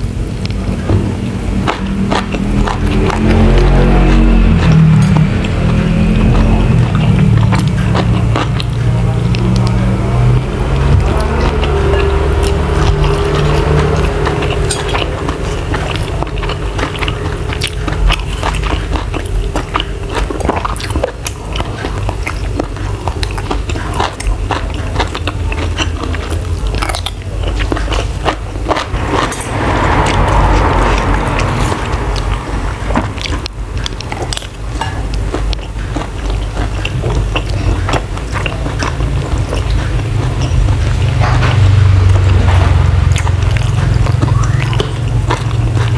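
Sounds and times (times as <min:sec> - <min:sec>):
close chewing with wet clicks: 0:00.4 - 0:00.9, 0:01.5 - 0:45.9.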